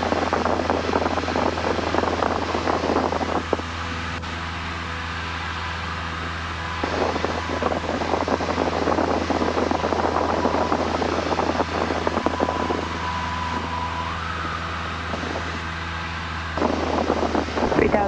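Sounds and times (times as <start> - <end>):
aircraft engine droning in cabin: 0.0 - 18.0
harsh crackling noise: 0.0 - 18.0.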